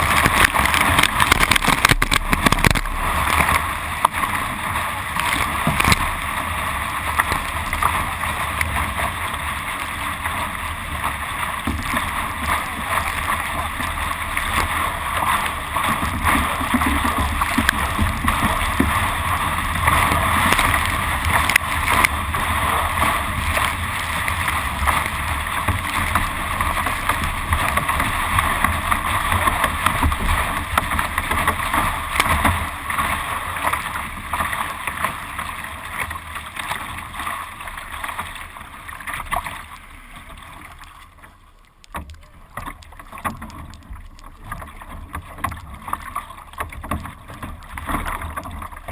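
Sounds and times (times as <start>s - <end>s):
wind rumble on microphone: 0.0s - 40.7s
water rushing along a boat bow: 0.0s - 48.9s.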